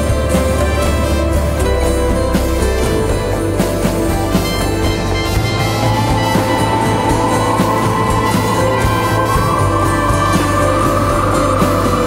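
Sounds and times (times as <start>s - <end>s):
music with sustained notes: 0.0s - 12.0s.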